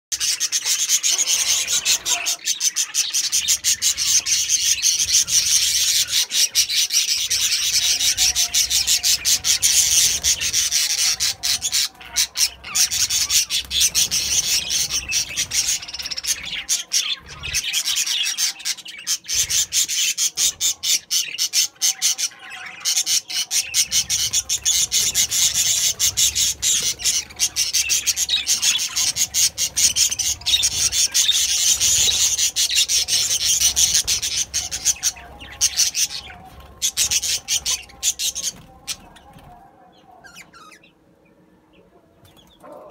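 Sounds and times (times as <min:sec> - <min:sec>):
budgerigars chattering: 0:00.2 - 0:39.3.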